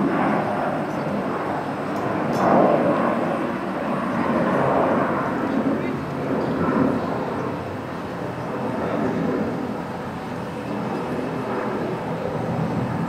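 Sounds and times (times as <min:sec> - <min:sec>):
jet aircraft climbing: 0:00.0 - 0:13.0.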